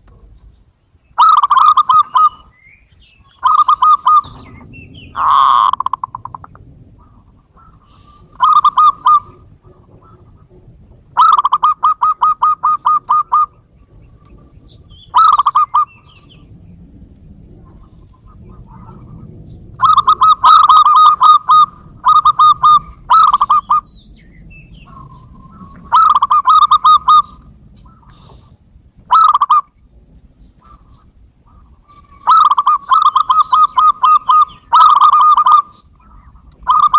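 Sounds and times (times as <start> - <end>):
dove cooing: 1.2 - 2.5, 3.2 - 16.6, 17.3 - 23.9, 24.5 - 29.8, 30.4 - 36.9.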